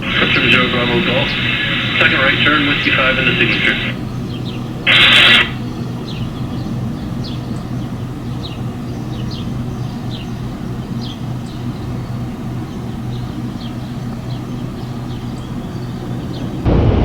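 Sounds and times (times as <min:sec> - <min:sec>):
small birds chirping: 0:00.0 - 0:16.7
faint hum: 0:00.0 - 0:17.0
jet engine rumble: 0:00.0 - 0:17.0.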